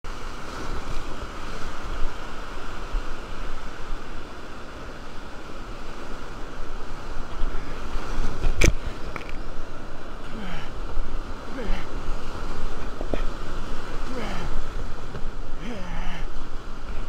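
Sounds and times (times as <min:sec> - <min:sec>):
whitewater rushing and churning: 0:00.0 - 0:17.0.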